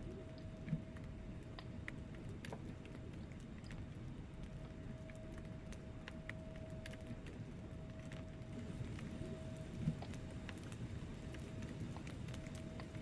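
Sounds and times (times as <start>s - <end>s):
logs crackling and popping: 0.0s - 13.0s
low rumble of flame: 0.0s - 13.0s.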